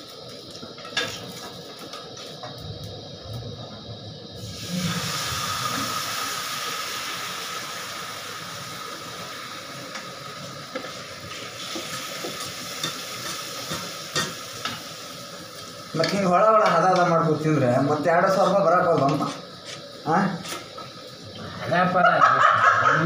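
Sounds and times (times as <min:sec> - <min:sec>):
batter sizzling in hot oil: 0:00.0 - 0:23.0.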